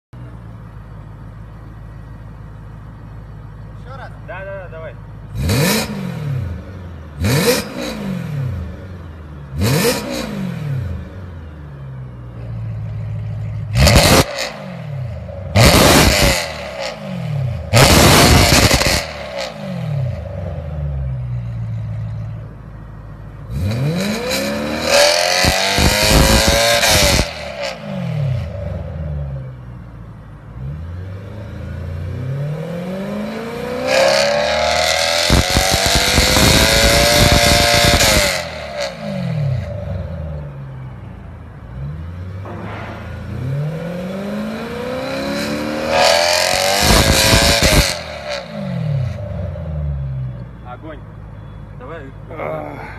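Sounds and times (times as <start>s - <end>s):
car engine revving: 0.2s - 50.5s.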